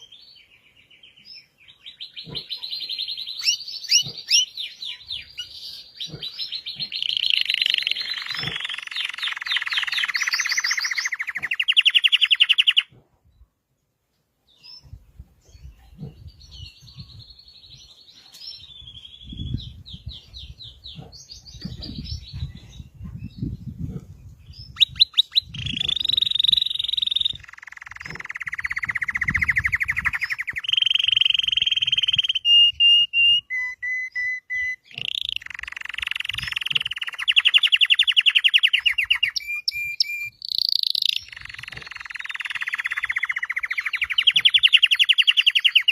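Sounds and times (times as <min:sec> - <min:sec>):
canary singing trills: 0:00.0 - 0:13.0, 0:14.6 - 0:45.9.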